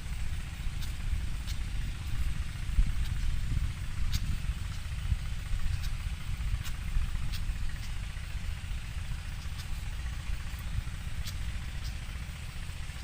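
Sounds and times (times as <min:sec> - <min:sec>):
steady low rumble: 0:00.0 - 0:13.0
bird chip calls: 0:00.8 - 0:13.0.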